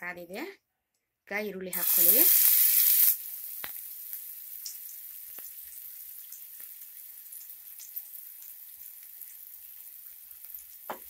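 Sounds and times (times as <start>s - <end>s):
onion sizzling in oil: 1.7s - 11.0s.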